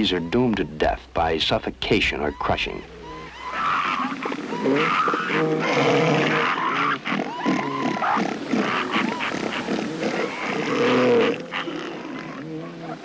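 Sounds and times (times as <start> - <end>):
elephant seals calling: 0.0 - 13.0.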